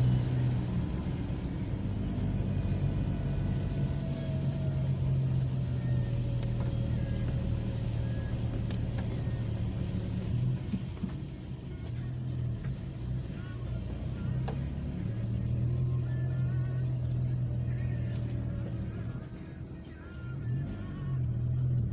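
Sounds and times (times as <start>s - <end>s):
car engine and road hum: 0.0s - 21.9s.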